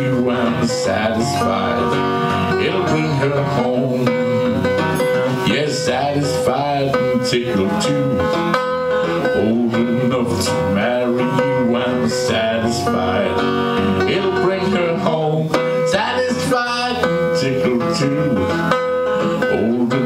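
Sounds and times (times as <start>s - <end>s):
resonator guitar blues: 0.0s - 20.0s.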